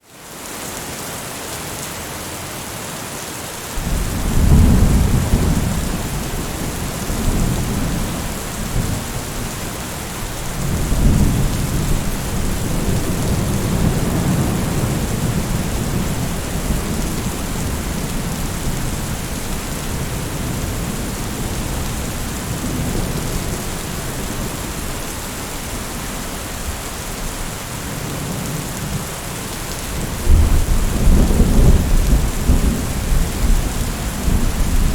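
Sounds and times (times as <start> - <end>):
heavy rain hissing: 0.1 - 34.9
thunder rumbling: 3.8 - 29.0, 29.6 - 34.9.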